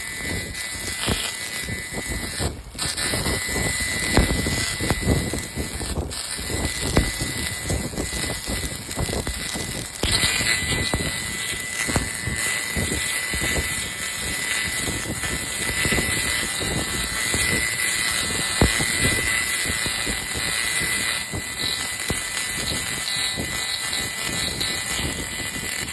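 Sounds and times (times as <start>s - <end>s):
laser cleaning crackling hiss: 0.0s - 25.9s
steady high whine: 0.0s - 25.9s.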